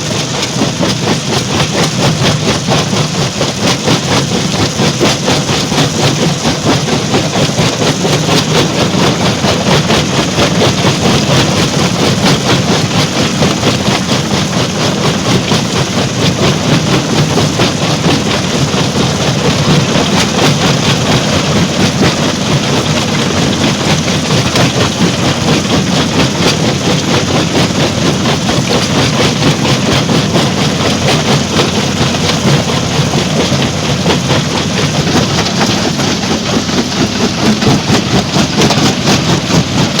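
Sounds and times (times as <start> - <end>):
stone crusher machinery: 0.0 - 40.0.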